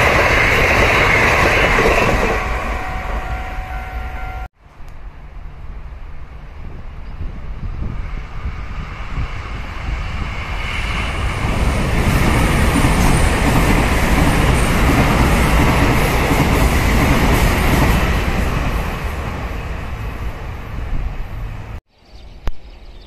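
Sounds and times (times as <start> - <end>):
train wheels rumbling on rails: 0.0 - 21.8.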